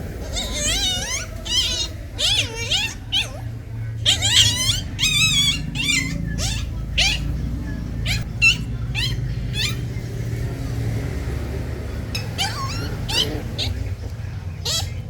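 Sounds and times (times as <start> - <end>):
steady low hum: 0.0 - 15.0
kittens meowing: 0.2 - 10.0, 12.0 - 15.0.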